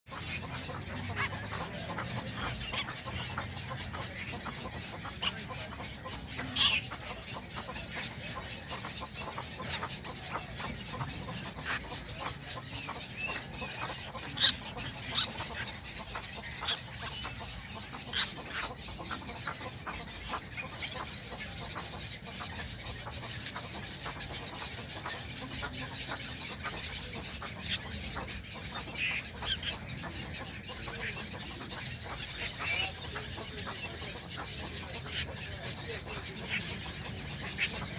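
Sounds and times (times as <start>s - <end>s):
young egrets clucking and clicking: 0.1s - 37.9s.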